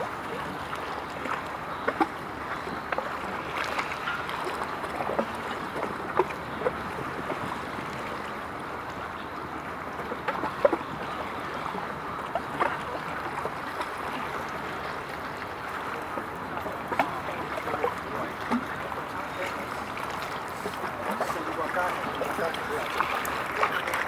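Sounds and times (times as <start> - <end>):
water sloshing and lapping: 0.0 - 24.0
water splashes: 0.0 - 24.0.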